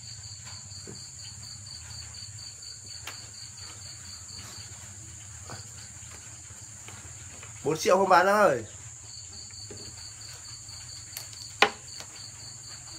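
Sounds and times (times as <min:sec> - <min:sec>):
crickets chirping: 0:00.0 - 0:12.9.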